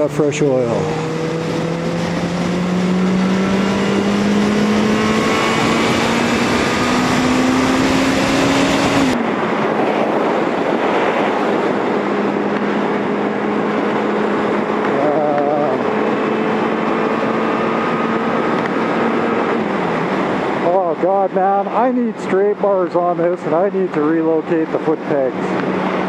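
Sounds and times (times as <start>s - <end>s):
motorcycle engine accelerating: 0.0s - 21.0s
wind rushing over microphone: 0.0s - 26.0s.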